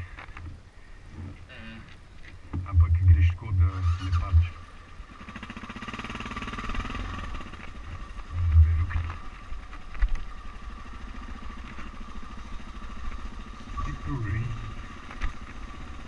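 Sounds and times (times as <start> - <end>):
motorcycle engine running: 2.6 - 16.0.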